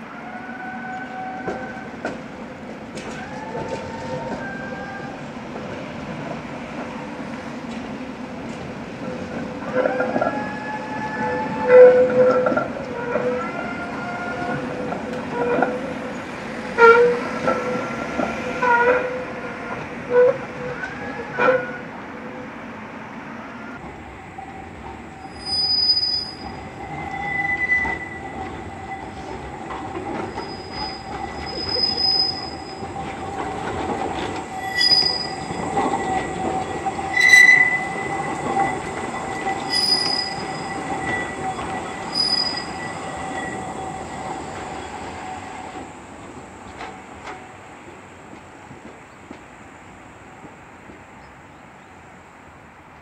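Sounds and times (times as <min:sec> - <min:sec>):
tram wheels squealing: 0:00.0 - 0:22.5, 0:23.4 - 0:49.9.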